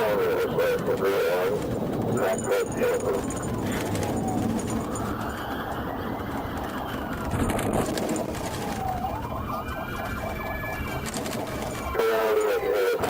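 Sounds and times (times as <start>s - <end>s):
police siren wailing: 0.0s - 13.0s
road and engine noise: 0.0s - 13.0s.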